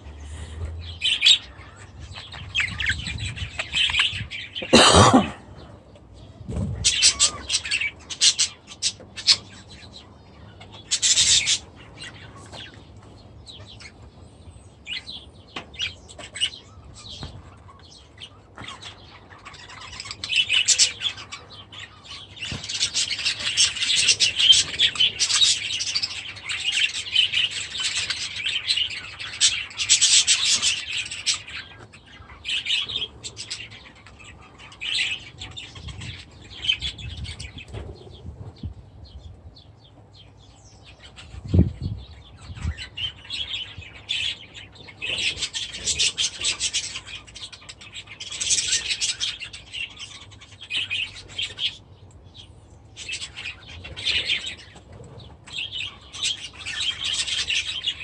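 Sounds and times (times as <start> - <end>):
budgerigars chirping and chattering: 0.0 - 58.0.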